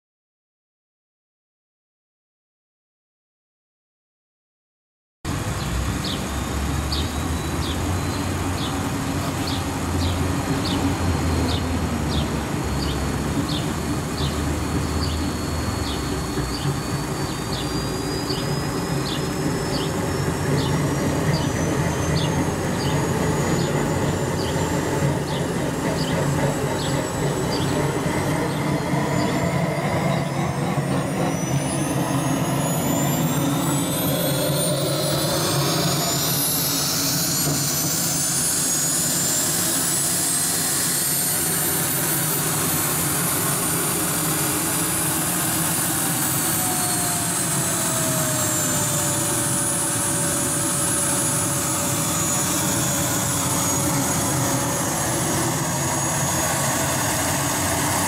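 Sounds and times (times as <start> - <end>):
turbine whine rising in pitch: 5.3 - 58.0.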